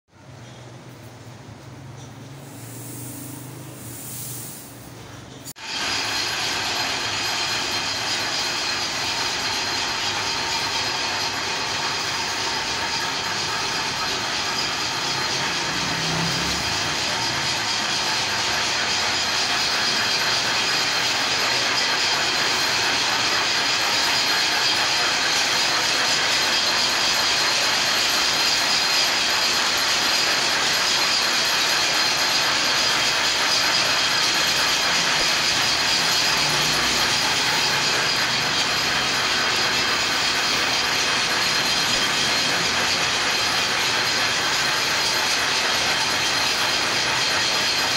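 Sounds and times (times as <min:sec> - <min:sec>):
workshop machinery clatter: 0:00.2 - 0:47.9.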